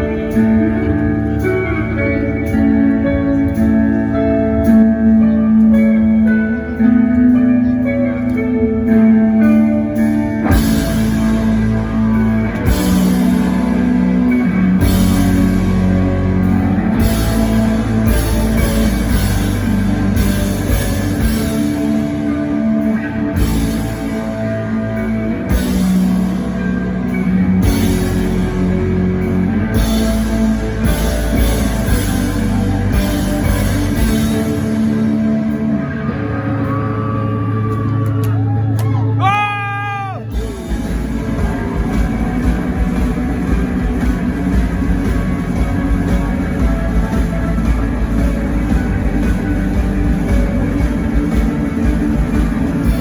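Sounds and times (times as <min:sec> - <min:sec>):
drums and bass: 0:00.0 - 0:53.0
electric guitars ringing: 0:00.0 - 0:53.0.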